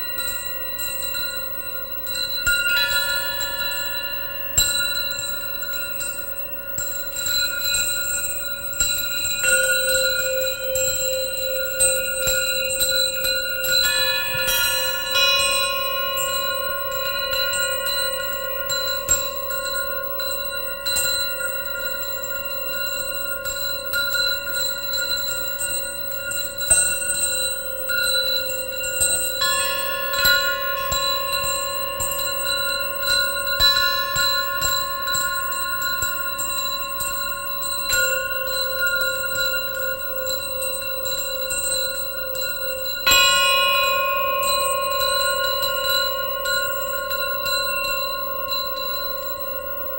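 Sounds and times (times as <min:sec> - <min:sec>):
metallic drone with bell overtones: 0:00.0 - 0:49.9.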